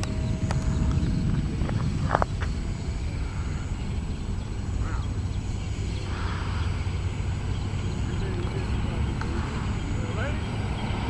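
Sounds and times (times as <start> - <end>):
faint rushing: 0.0 - 11.0
model plane motor hum: 0.0 - 11.0.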